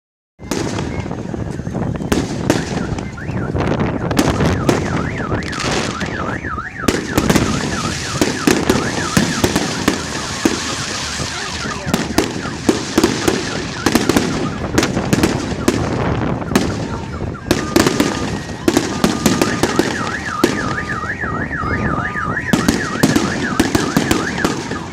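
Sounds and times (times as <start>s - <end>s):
fireworks bangs and crackling: 0.4s - 24.9s
car alarm warbling: 2.5s - 24.9s.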